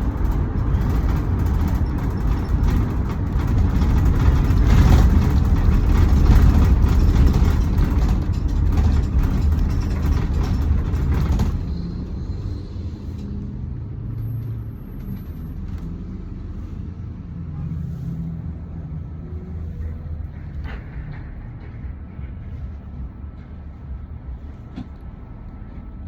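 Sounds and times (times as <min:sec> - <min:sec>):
road and engine noise: 0:00.0 - 0:26.0.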